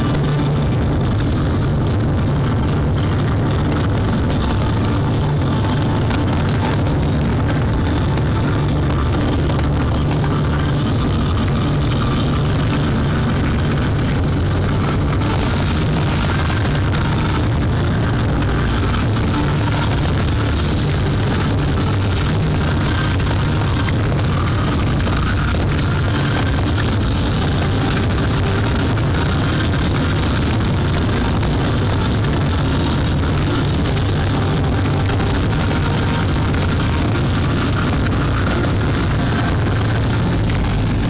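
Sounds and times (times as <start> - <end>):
music playing: 0.0 - 41.0.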